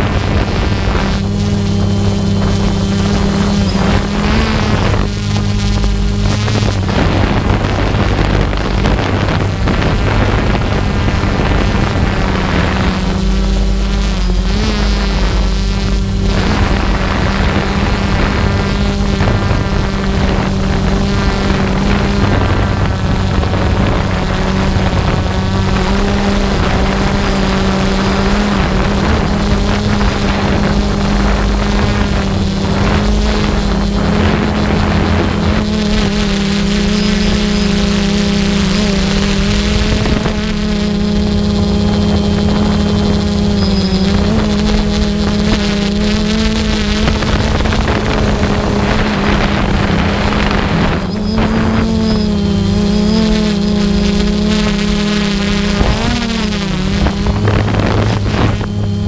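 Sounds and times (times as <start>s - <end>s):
aircraft propeller engine: 0.0s - 59.0s
wind on microphone: 0.0s - 59.0s.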